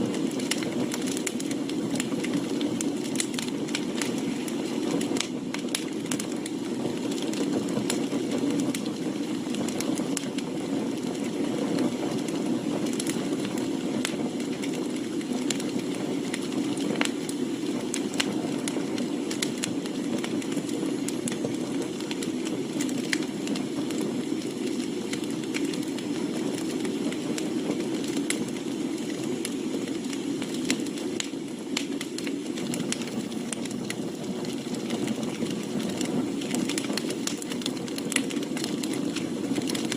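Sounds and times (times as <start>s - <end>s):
campfire crackling and popping: 0.0s - 39.9s
fire low rush: 0.0s - 39.9s.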